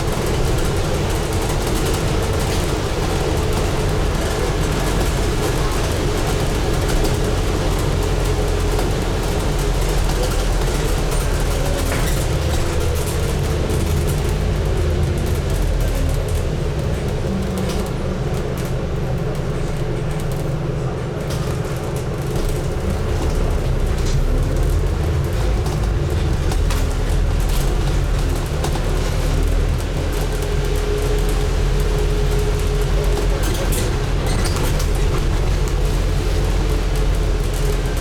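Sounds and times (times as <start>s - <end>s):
bus diesel engine drone: 0.0s - 38.0s
light rattles and clicks: 0.0s - 38.0s.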